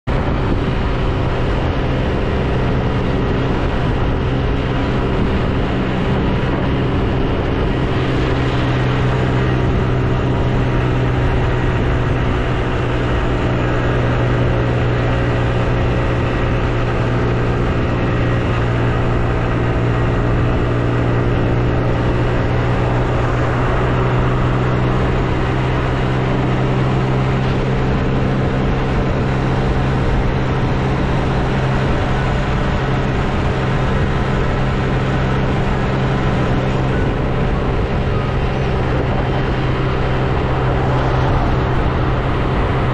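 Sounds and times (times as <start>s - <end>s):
car engine hum: 0.0s - 42.9s
tyre and road noise: 0.0s - 42.9s.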